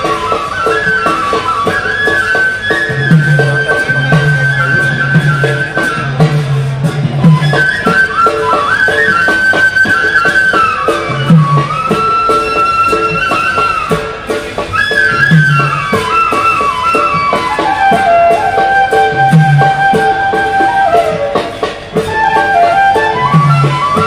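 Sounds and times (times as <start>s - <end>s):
deep drum beat: 0.0s - 24.0s
sliding melody of held notes: 0.0s - 24.0s
steady percussion strokes: 0.0s - 24.0s.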